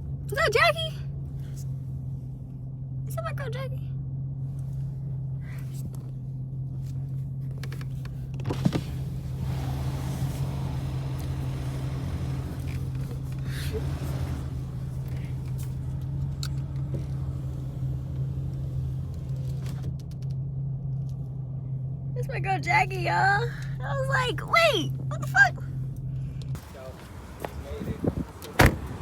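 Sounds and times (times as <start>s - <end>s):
car engine drone inside cabin: 0.0s - 29.0s.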